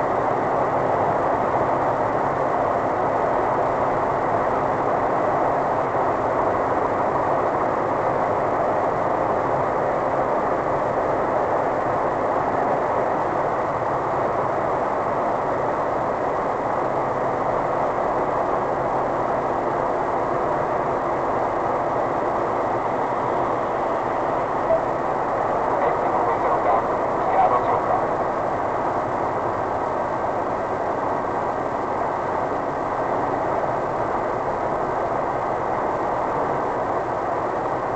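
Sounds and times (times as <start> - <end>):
low engine hum: 0.0 - 37.9.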